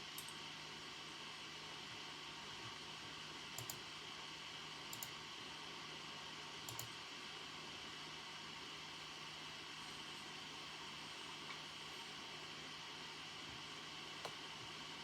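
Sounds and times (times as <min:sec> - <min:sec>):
faint hiss and hum: 0:00.0 - 0:15.0.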